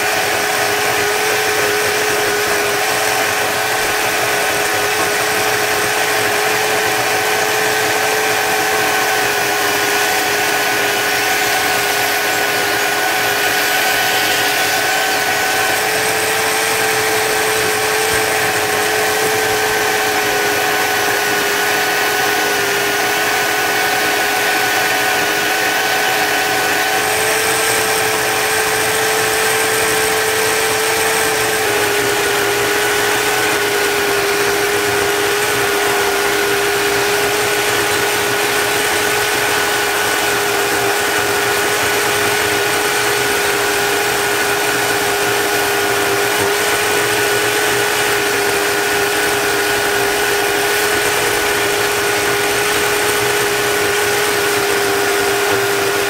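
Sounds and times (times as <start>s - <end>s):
belt sander motor whine: 0.0s - 56.0s.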